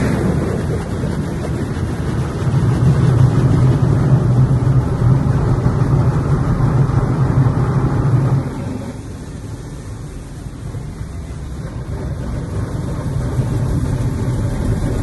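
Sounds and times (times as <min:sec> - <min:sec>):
car wash rushing and humming: 0:00.0 - 0:15.0.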